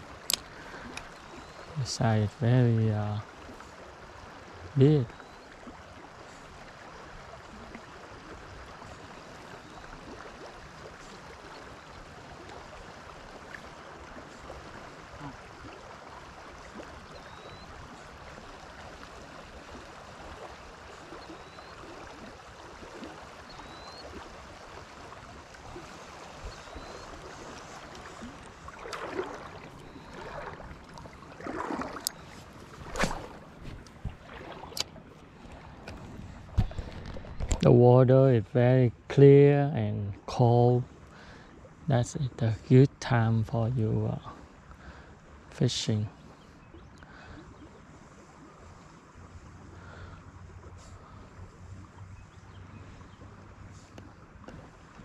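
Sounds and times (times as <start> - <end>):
small waves lapping: 0.0 - 55.0
steady wind: 0.0 - 55.0.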